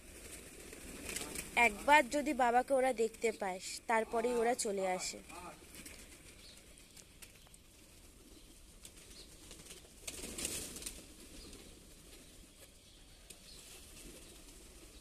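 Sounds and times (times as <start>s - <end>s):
pigeon wings flapping: 0.0s - 3.3s, 4.4s - 12.5s, 13.2s - 15.0s.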